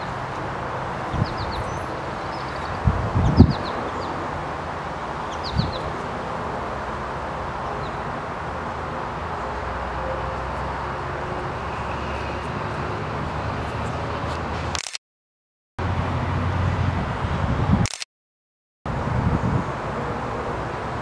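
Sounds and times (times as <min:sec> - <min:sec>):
outdoor background noise: 0:00.0 - 0:15.0, 0:15.8 - 0:18.1, 0:18.9 - 0:21.0.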